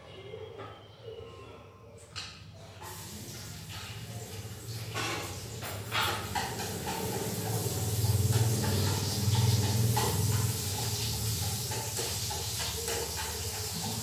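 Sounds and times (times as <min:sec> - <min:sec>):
food sizzling in a frying pan: 0:02.7 - 0:14.0.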